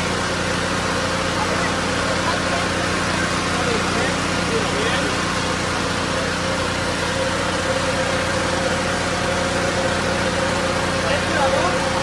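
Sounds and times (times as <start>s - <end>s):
fire engine idling: 0.0s - 12.0s.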